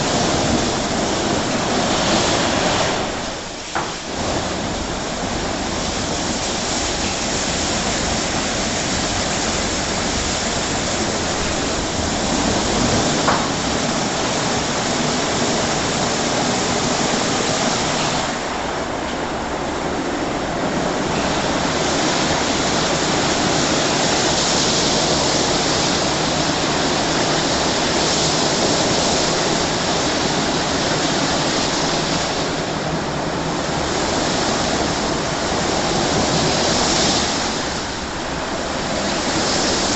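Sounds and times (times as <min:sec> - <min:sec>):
rotating wash brushes sweeping: 0:00.0 - 0:39.9
water jets spraying: 0:00.0 - 0:39.9.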